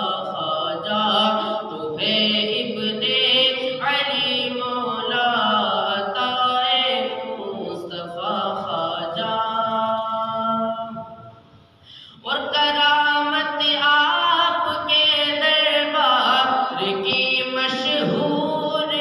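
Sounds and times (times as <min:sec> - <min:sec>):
boy singing unaccompanied: 0:00.0 - 0:11.0, 0:12.2 - 0:19.0.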